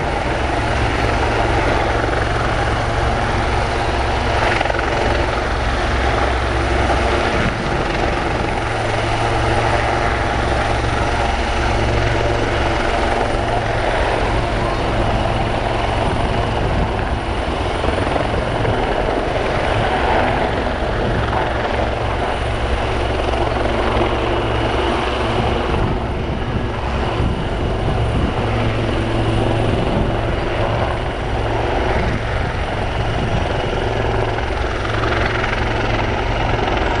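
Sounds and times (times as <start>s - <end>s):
helicopter rotor blades beating: 0.0s - 37.0s
turbine engine hum: 0.0s - 37.0s.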